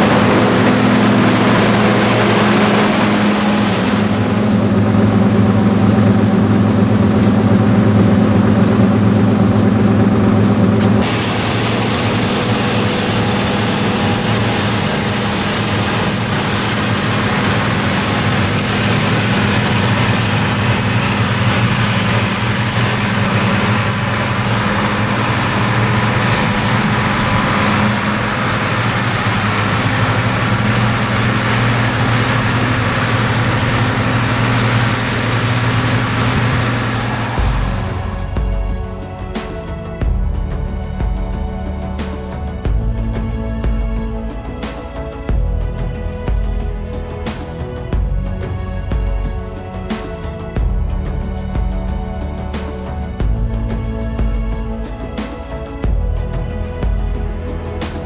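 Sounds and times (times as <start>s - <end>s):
heavy machinery engines running: 0.0s - 58.0s.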